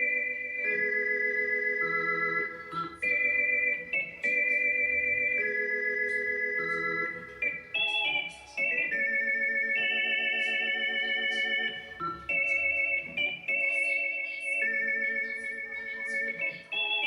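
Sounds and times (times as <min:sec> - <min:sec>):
organ chords with vibrato: 0:00.0 - 0:17.0.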